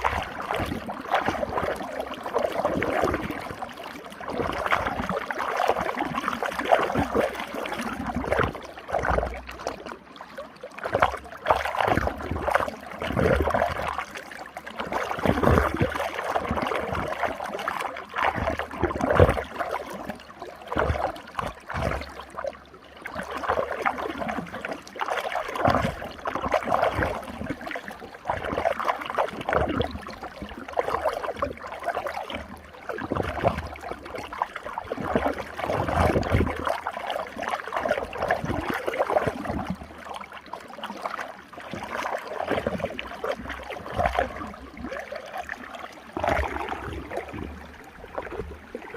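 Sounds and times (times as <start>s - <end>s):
water gurgling and splashing: 0.0s - 48.9s.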